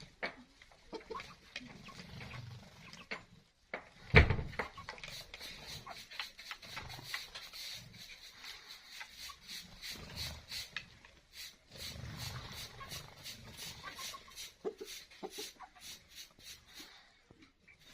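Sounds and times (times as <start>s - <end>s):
chickens making low calls: 0.0s - 17.0s.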